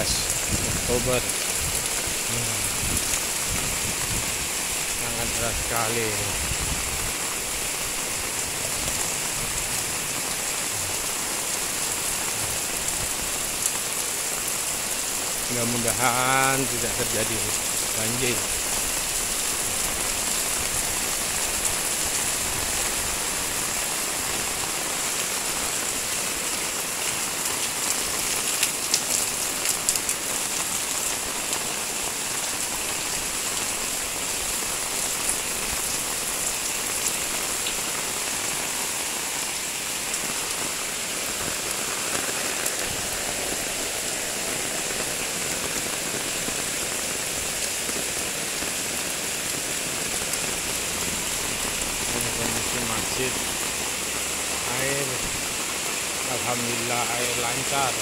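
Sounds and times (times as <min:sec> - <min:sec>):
heavy rain on roofs and street: 0:00.0 - 0:58.0
water running off roof edges: 0:00.0 - 0:58.0.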